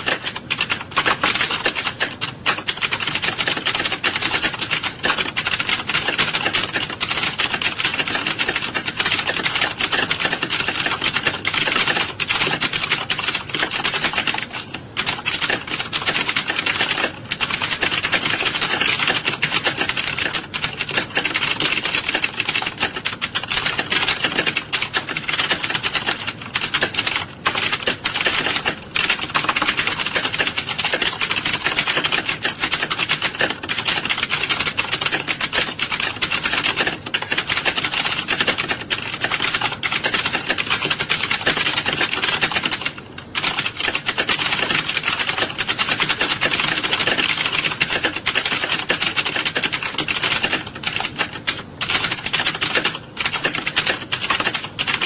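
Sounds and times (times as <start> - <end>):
keyboard typing clatter: 0.0 - 55.0.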